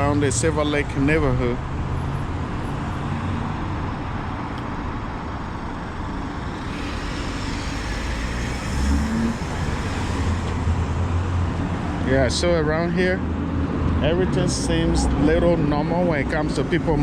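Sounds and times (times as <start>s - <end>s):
cars driving past: 0.0s - 17.0s
vehicle engine: 0.0s - 17.0s.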